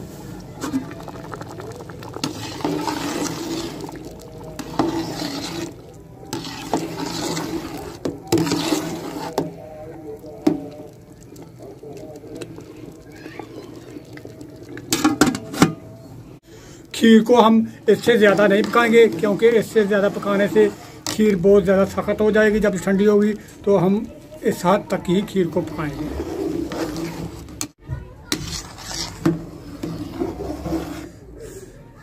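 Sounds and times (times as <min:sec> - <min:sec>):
ladle scraping pot wall: 0:00.0 - 0:15.9, 0:17.9 - 0:21.4, 0:24.5 - 0:31.2
ladle stirring and sloshing: 0:00.0 - 0:22.5, 0:23.2 - 0:31.2.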